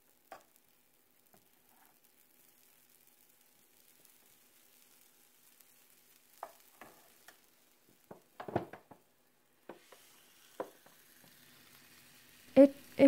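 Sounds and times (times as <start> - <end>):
sharp pops and crackles: 0.0 - 11.9
batter sizzling in waffle iron: 0.0 - 13.0.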